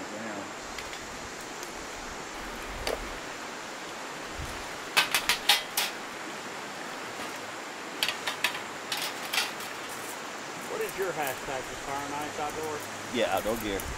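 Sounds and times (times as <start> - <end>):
river rapids rushing: 0.0 - 13.7.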